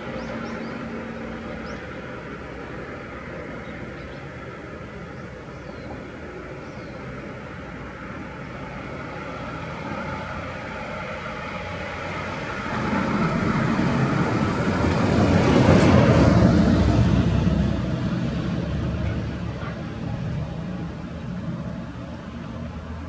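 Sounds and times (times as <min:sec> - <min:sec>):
steady background hum: 0:00.0 - 0:23.0
vehicle passing by: 0:00.0 - 0:23.0.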